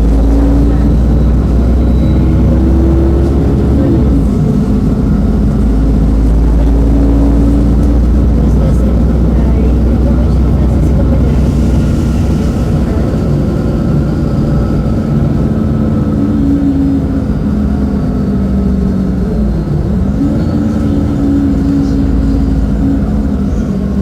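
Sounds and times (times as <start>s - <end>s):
bus diesel engine rumbling: 0.0s - 24.0s.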